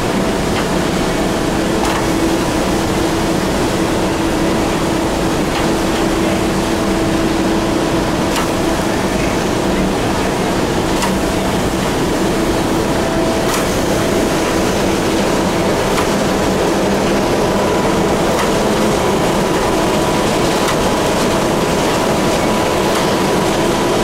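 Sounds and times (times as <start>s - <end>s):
conveyor belt mechanical drone: 0.0s - 24.0s.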